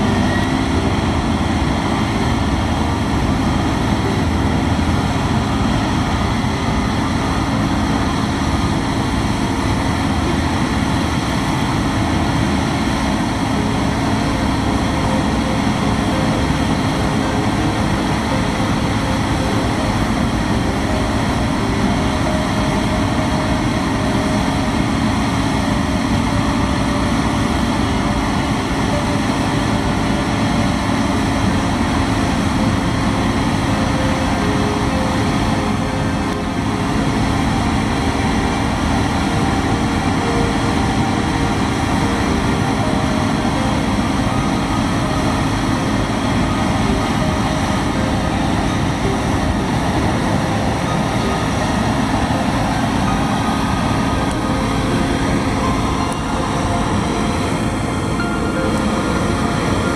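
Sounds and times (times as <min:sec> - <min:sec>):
combine engine and auger drone: 0:00.0 - 0:59.9.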